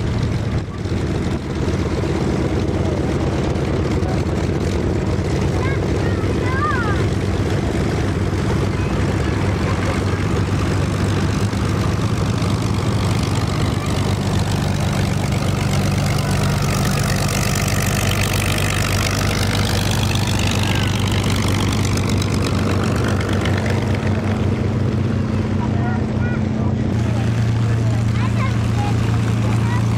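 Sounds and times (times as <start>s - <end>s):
propeller plane engine droning: 0.0s - 29.9s.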